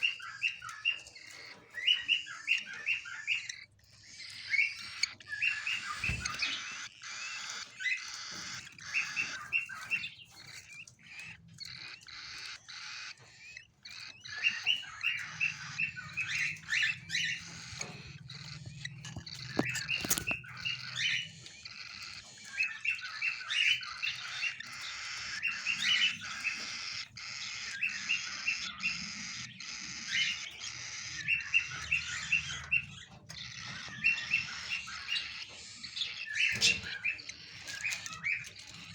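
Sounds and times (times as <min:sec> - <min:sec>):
cockatiels chirping: 0:00.0 - 0:38.9.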